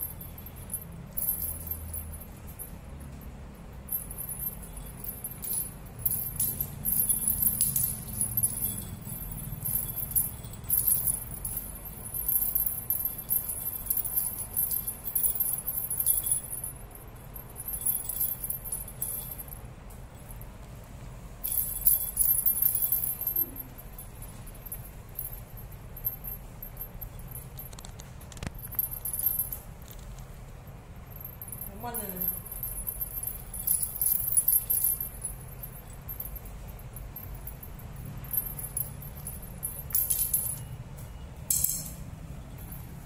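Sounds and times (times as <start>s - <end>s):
small jingle bells jingling: 0.0s - 43.0s.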